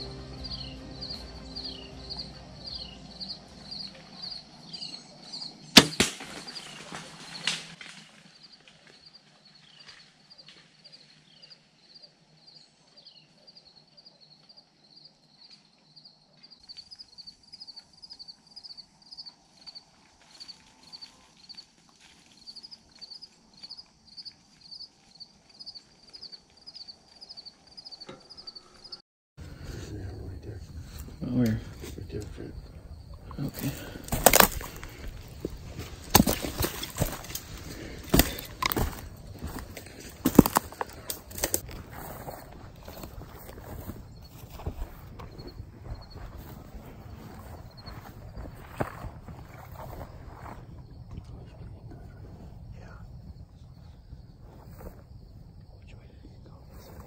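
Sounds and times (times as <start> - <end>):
night insects chirping: 0.0 - 57.0.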